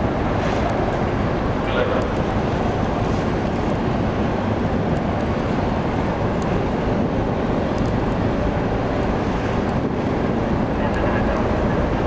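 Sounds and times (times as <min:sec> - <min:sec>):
ship diesel engines rumbling: 0:00.0 - 0:12.0.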